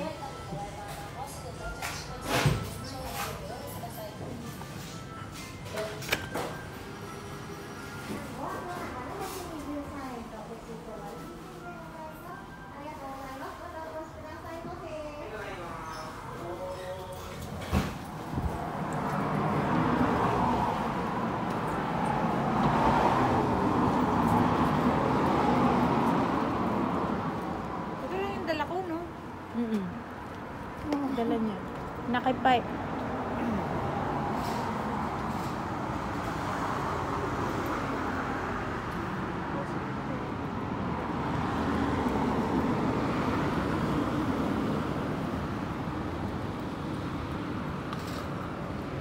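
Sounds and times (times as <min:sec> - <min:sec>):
road traffic: 0:00.0 - 0:49.0.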